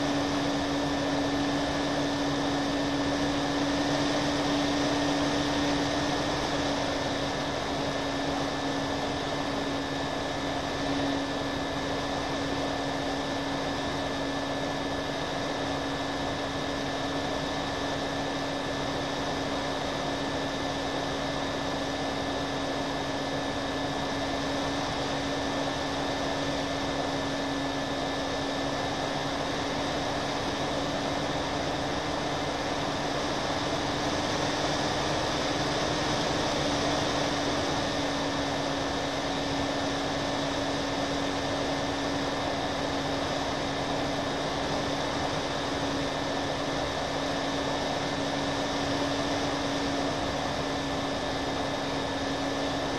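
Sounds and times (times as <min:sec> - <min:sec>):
model plane motors running: 0:00.0 - 0:52.9.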